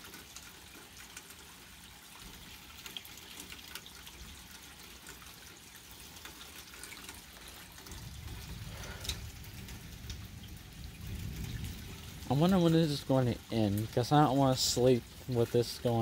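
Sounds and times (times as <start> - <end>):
drips and splashes: 0.0 - 16.0
steady rain falling: 0.0 - 16.0.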